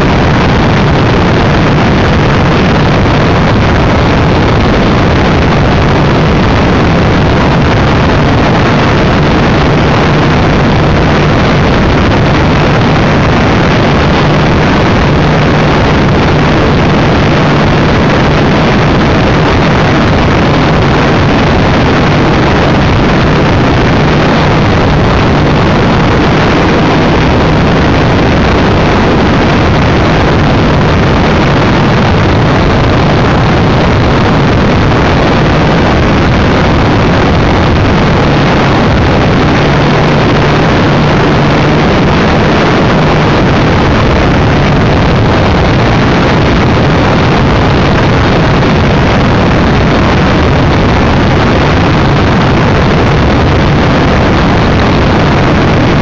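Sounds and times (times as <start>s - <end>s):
rush of air: 0.0s - 56.0s.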